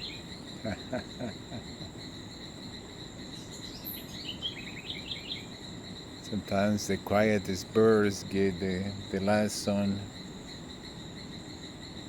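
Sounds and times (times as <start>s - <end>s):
crickets droning: 0.0s - 12.0s
quick insect chirps: 0.0s - 12.0s.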